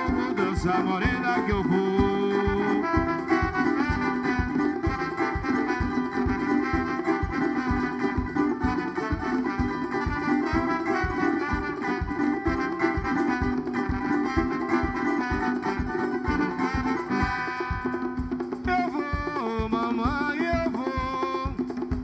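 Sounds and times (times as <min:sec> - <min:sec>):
instrumental band music: 0:00.0 - 0:22.0
low drum beats: 0:00.0 - 0:22.0.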